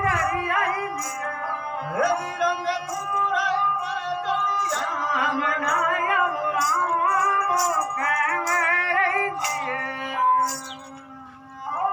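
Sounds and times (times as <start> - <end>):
held accompanying tones: 0.0 - 11.9
person singing wavering notes: 0.0 - 11.9.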